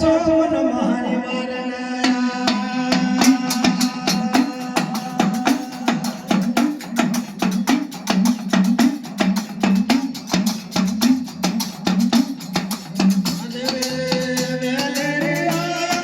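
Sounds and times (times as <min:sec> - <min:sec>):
hourglass drum playing fast rhythm: 0:03.0 - 0:16.0.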